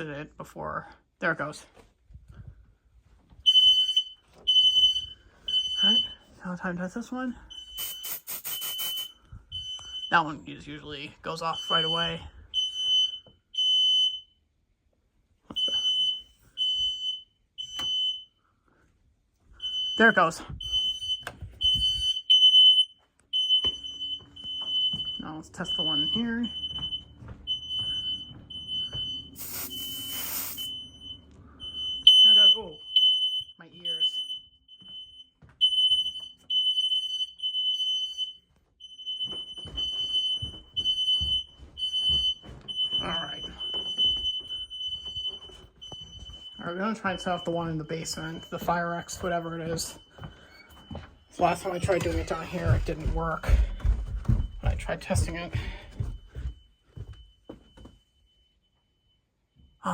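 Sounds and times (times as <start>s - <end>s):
smoke alarm beeping: 3.4s - 14.4s, 15.5s - 18.4s, 19.6s - 59.9s.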